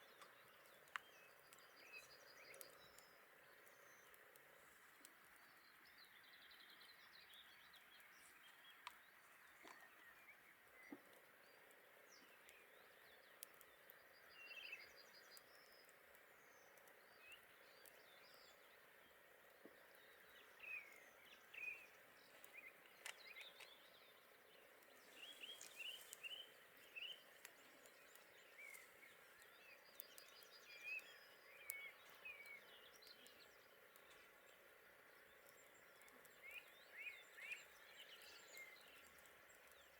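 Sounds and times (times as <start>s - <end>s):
faint birdsong chirps and trills: 0.0s - 39.9s
soft steady hiss: 0.0s - 39.9s
faint clicks: 0.1s - 5.9s, 7.2s - 39.9s.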